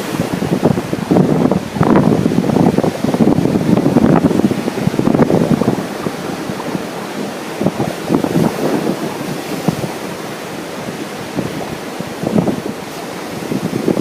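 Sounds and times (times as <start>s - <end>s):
ocean surf washing: 0.0s - 14.0s
wind buffeting microphone: 0.0s - 14.0s.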